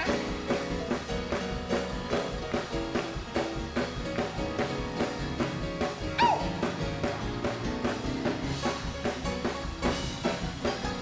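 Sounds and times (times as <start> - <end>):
drum kit groove: 0.0 - 11.0
held chords and bass: 0.0 - 11.0.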